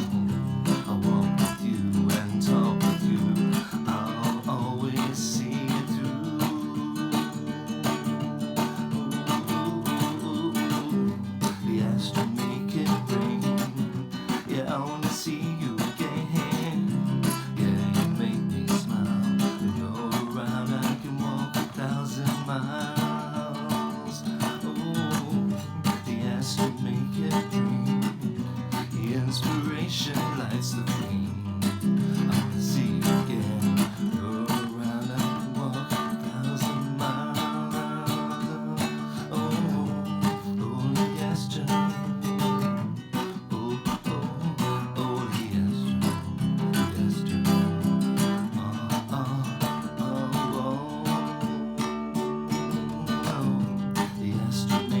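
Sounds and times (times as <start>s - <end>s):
song with strummed acoustic guitar: 0.0s - 55.0s.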